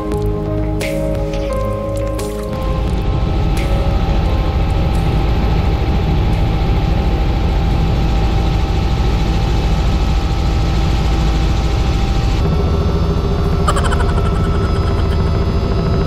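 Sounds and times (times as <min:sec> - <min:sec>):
helicopter rotor and engine drone: 0:02.5 - 0:16.0.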